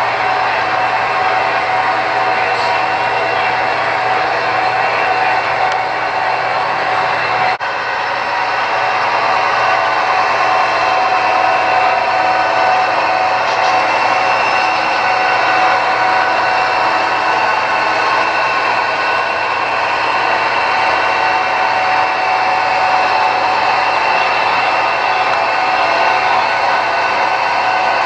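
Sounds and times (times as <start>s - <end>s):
model train whirring on rails: 0.0s - 28.0s.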